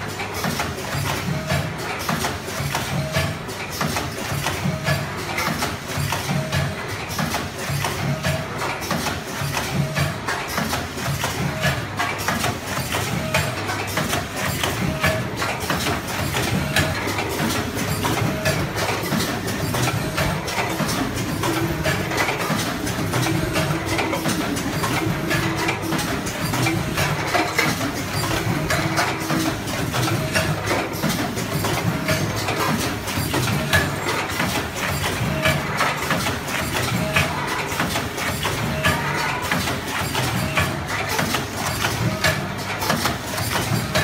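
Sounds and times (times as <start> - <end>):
packing machine clatter: 0.0 - 44.0.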